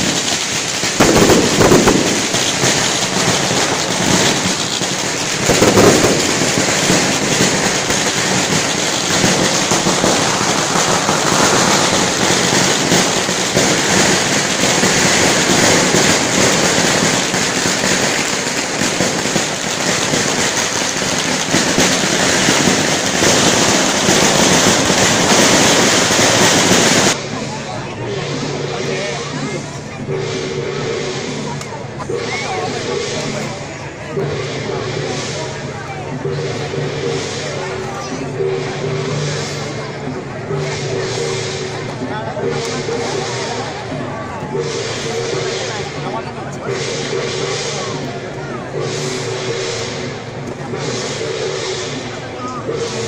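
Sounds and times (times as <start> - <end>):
fireworks crackling: 0.0 - 53.0
heavy firework bursts: 0.0 - 53.0.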